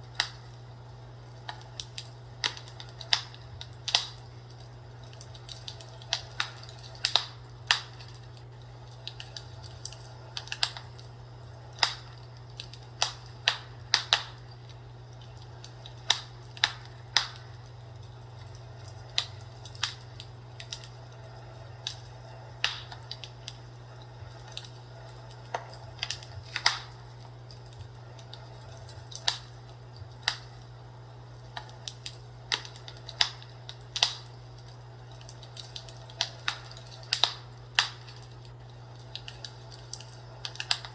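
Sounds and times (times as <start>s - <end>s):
fireplace crackling: 0.0s - 40.9s.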